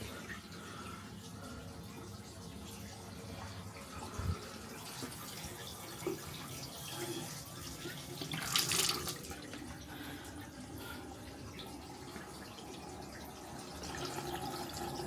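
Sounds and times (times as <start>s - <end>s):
tap water running into basin: 0.0s - 15.0s.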